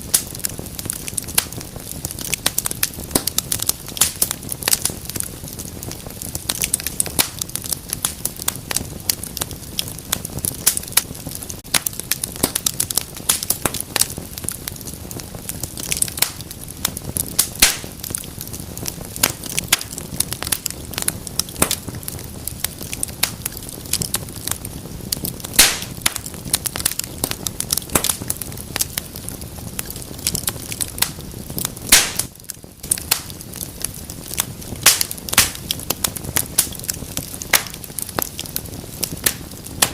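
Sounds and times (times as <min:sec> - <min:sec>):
flames rumbling and hissing: 0:00.0 - 0:39.9
logs crackling and popping: 0:00.0 - 0:39.9.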